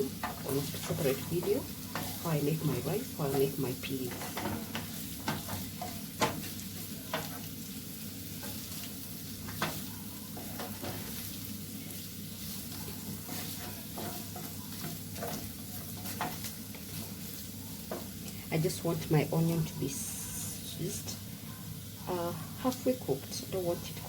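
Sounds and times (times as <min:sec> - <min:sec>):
onions sizzling in a pan: 0:00.0 - 0:24.0.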